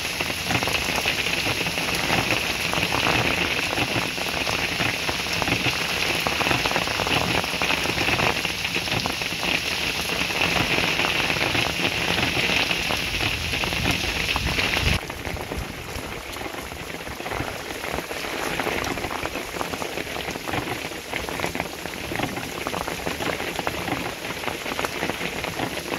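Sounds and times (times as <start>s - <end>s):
heavy rain on a flooded street: 0.0s - 25.9s.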